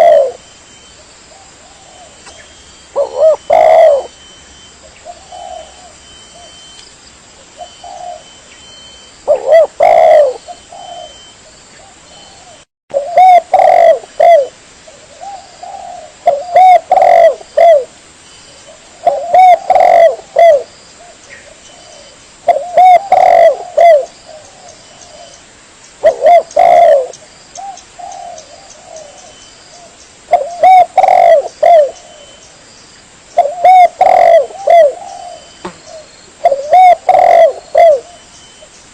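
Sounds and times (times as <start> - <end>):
dove cooing: 0.0 - 0.5, 1.3 - 4.3, 5.0 - 6.7, 7.5 - 17.9, 18.6 - 25.4, 26.0 - 32.4, 33.4 - 38.7.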